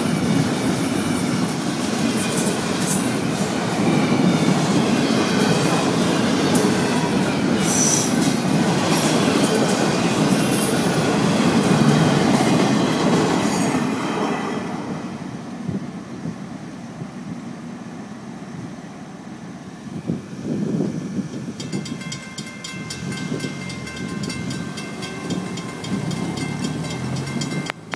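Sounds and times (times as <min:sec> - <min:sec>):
train wheels rumbling on rail: 0:00.0 - 0:27.9.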